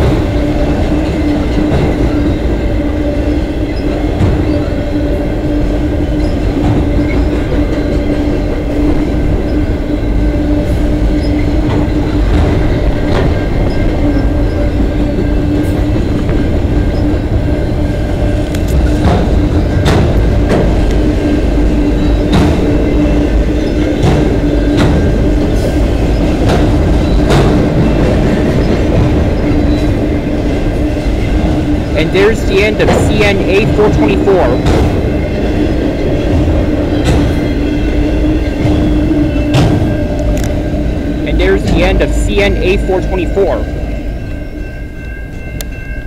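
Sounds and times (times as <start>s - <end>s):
freight train rumble: 0.0s - 46.0s.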